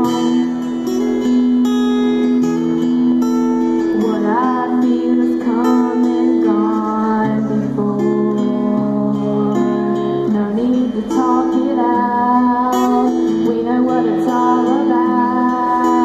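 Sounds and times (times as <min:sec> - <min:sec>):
girl singing: 0:00.0 - 0:00.9, 0:04.0 - 0:16.0
acoustic guitar: 0:00.0 - 0:16.0.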